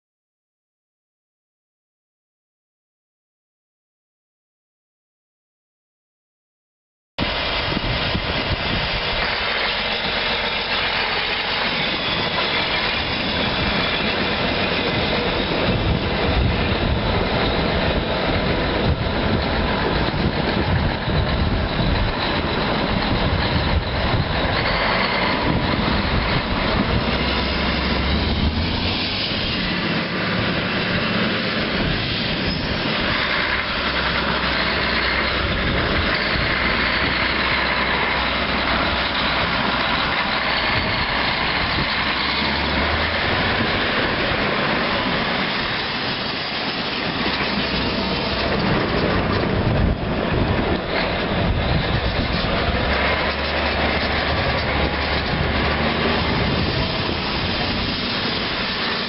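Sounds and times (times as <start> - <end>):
diesel engine running: 7.2 - 59.0.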